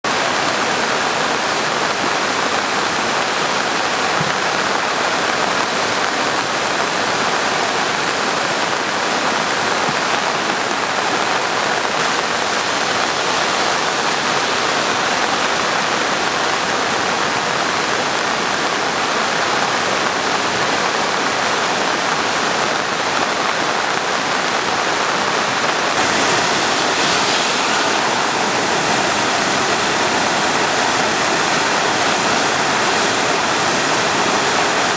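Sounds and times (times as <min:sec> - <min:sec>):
river rushing: 0:00.0 - 0:34.9.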